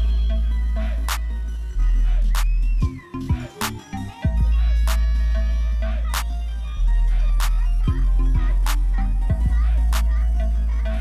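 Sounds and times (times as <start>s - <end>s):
music with heavy bass line: 0.0s - 11.0s.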